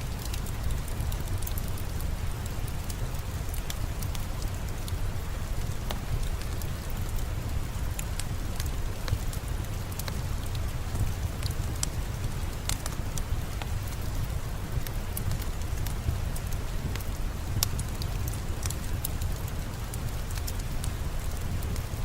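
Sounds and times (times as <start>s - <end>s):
steady rain: 0.0s - 22.0s
wood fire crackling: 0.0s - 22.0s.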